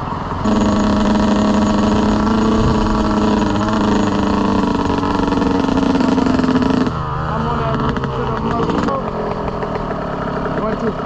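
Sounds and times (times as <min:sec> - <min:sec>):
dirt bike engine idling: 0:00.4 - 0:11.0.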